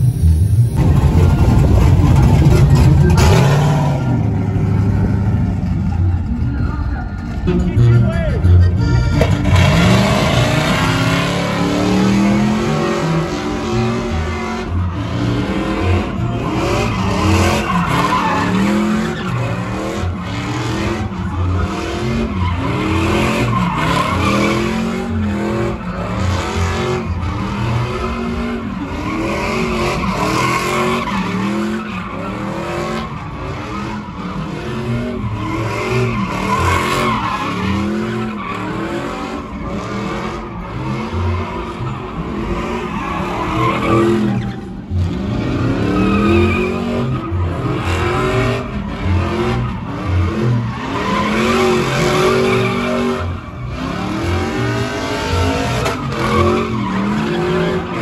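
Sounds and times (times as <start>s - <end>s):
tires screeching on asphalt: 0.0s - 58.0s
truck engine revving: 0.0s - 58.0s.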